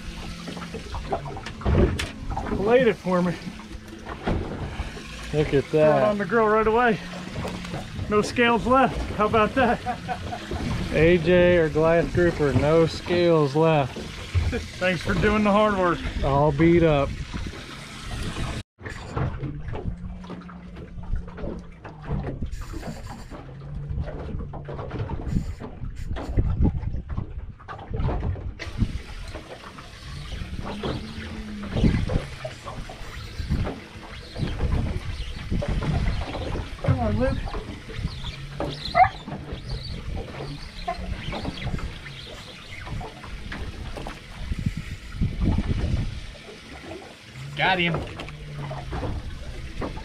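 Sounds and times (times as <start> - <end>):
water lapping against boat hull: 0.0 - 50.0.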